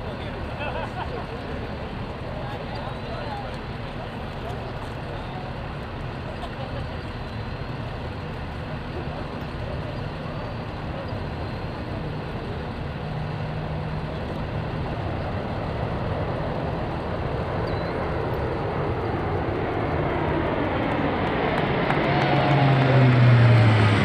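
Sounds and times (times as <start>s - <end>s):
turboprop aircraft engine hum: 0.0s - 24.0s.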